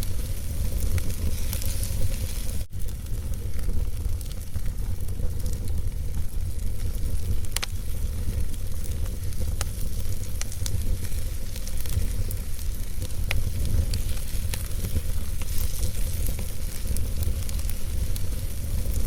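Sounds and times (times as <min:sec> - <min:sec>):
fire crackles and pops: 0:00.0 - 0:19.0
fireplace fire burning: 0:00.0 - 0:19.0.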